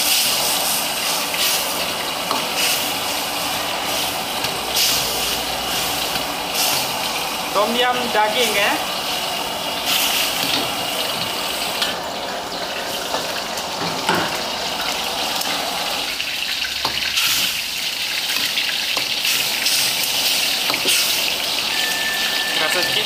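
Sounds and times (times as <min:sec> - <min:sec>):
broth bubbling in a wok: 0:00.0 - 0:23.0.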